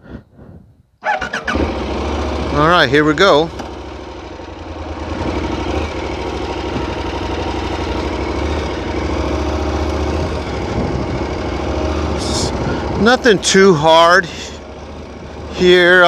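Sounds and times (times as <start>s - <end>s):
motorcycle engine running: 1.0s - 16.0s.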